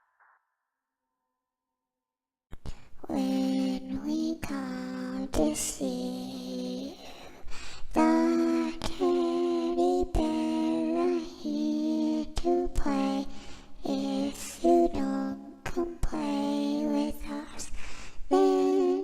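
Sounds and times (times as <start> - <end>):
person singing lullaby-like tune: 3.0 - 17.7, 18.3 - 19.0.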